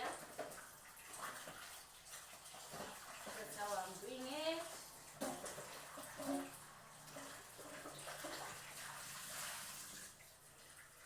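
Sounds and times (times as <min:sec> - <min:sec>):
potatoes washed in water: 0:00.0 - 0:11.0.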